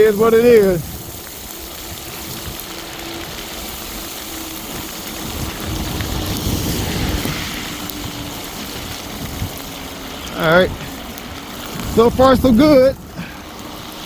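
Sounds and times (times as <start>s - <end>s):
bike tyres rushing through snow: 0.0s - 14.0s.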